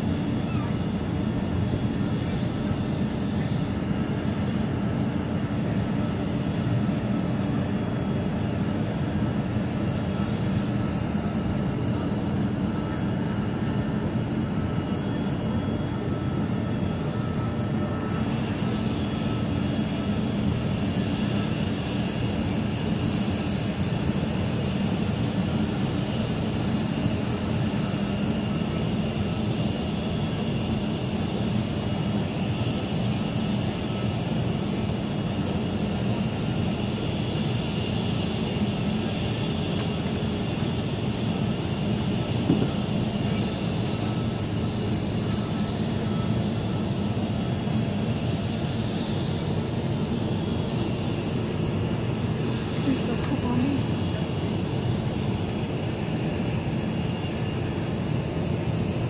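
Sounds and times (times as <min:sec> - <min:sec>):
faint high whines: 0:00.0 - 0:59.0.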